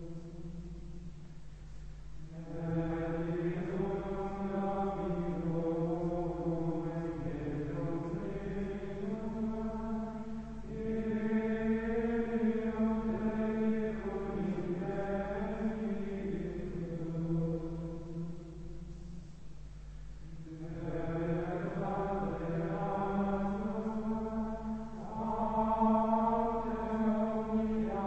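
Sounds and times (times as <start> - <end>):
male voices singing plainchant: 2.3 - 18.2, 20.4 - 28.0.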